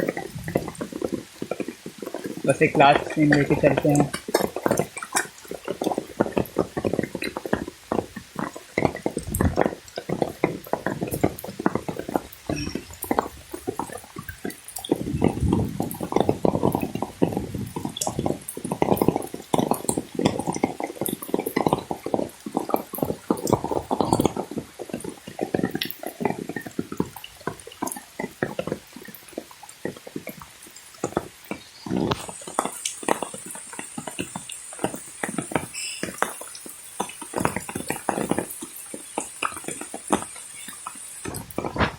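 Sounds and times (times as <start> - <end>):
steady high-pitched hiss: 0.0 - 41.9
water splashing and sloshing: 0.0 - 41.9.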